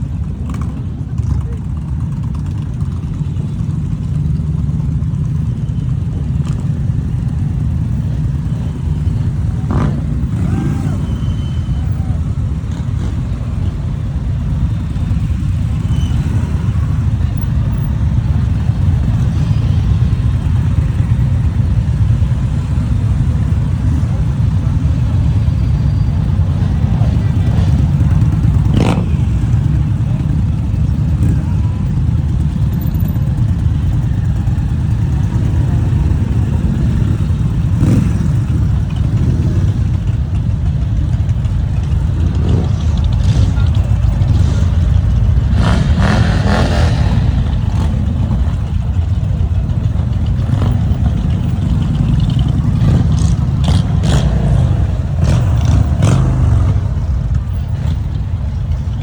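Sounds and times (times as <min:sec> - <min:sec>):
motorcycle engines rumbling: 0:00.0 - 0:59.0.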